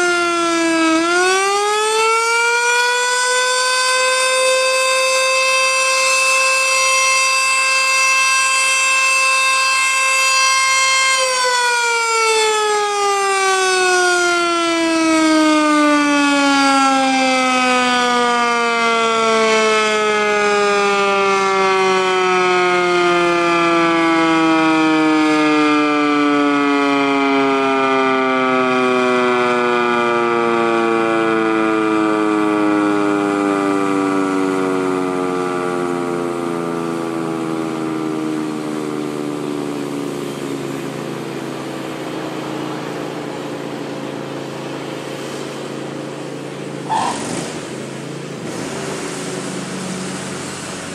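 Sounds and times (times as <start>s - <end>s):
siren winding down: 0.0s - 50.9s.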